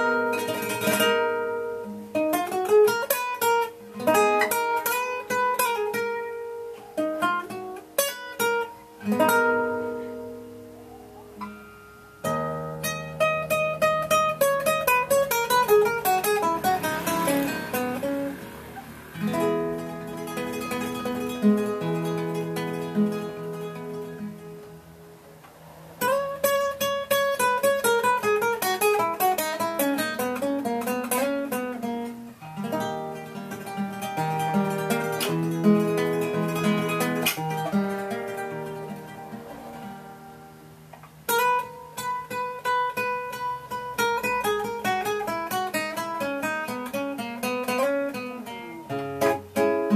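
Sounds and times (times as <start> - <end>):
classical guitar playing: 0.0 - 49.9.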